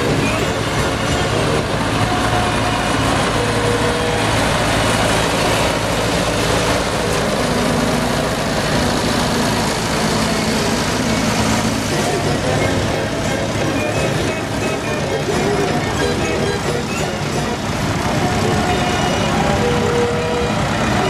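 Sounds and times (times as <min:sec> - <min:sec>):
higher tractor engine note: 0:00.0 - 0:21.0
low tractor engine note: 0:00.0 - 0:21.0.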